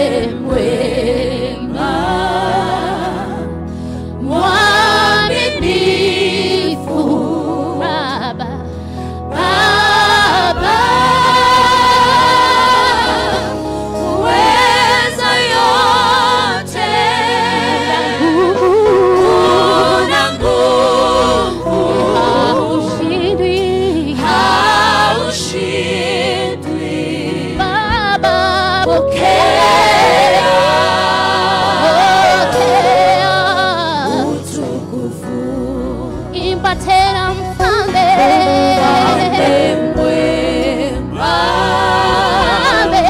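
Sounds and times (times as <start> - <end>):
gospel singing with vibrato: 0.0 - 43.0.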